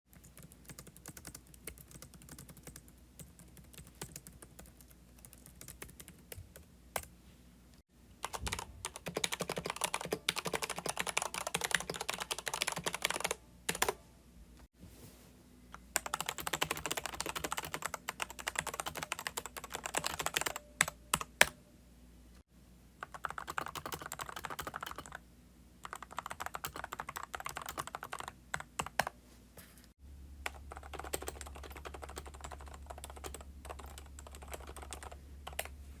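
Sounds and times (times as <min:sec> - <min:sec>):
mechanical keyboard typing: 0:00.1 - 0:07.1, 0:08.2 - 0:14.0, 0:16.0 - 0:21.6, 0:23.0 - 0:25.2, 0:25.8 - 0:29.1, 0:30.4 - 0:35.7.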